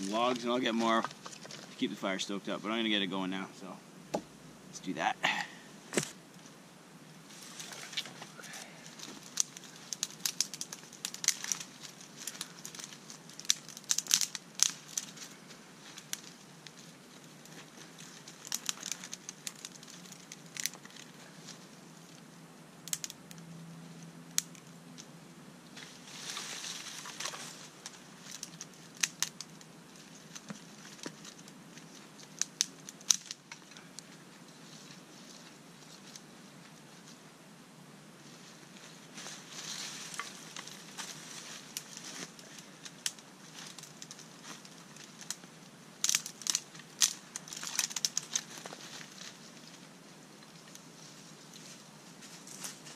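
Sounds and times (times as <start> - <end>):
dry sticks cracking: 0.0 - 1.9, 7.4 - 37.2, 38.6 - 52.9
dry leaf litter rustling: 0.0 - 2.8, 7.3 - 22.2, 25.8 - 37.2, 38.2 - 52.9.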